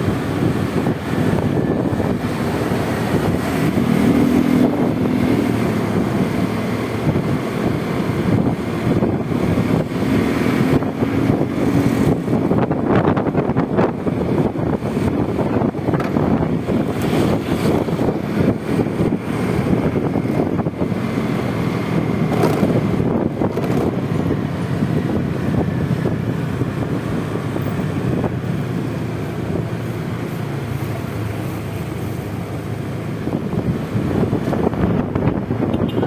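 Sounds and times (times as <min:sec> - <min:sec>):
scooter engine: 0:00.0 - 0:36.0
surrounding traffic: 0:00.0 - 0:36.0
wind rushing over microphone: 0:00.0 - 0:36.0.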